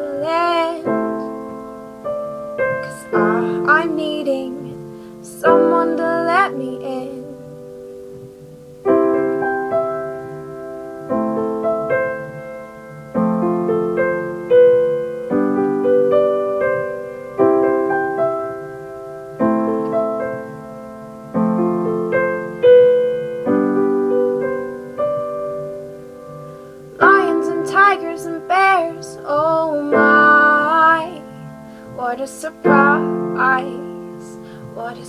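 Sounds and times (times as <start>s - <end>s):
solo acoustic piano: 0.0s - 35.0s.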